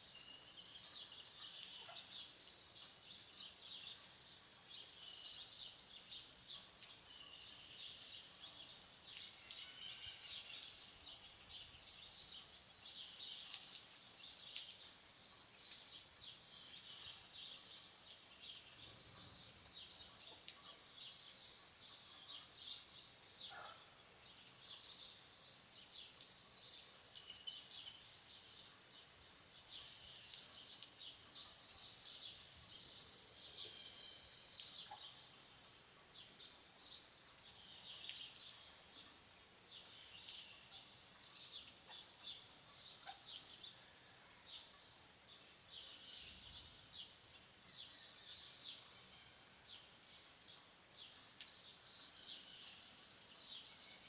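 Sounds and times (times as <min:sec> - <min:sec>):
light rain: 0:00.0 - 0:54.0.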